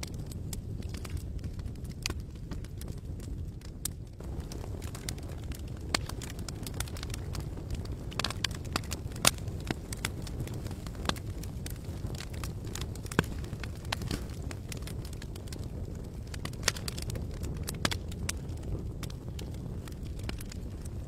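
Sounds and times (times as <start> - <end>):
burning wood crackling and popping: 0.0 - 21.0
campfire rumbling: 0.0 - 21.0.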